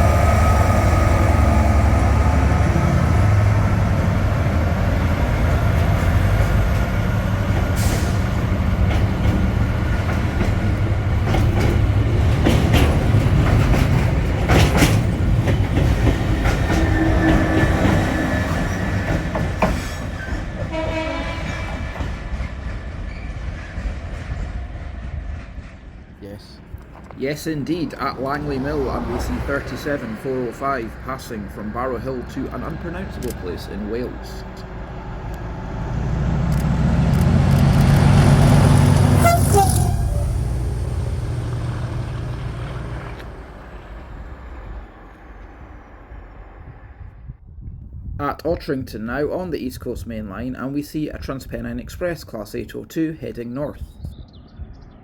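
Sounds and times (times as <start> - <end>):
train passing: 0.0 - 47.5.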